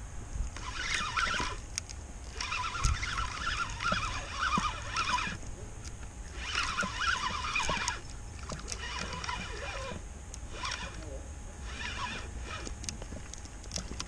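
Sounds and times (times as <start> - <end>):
fishing reel whirring: 0.4 - 14.0.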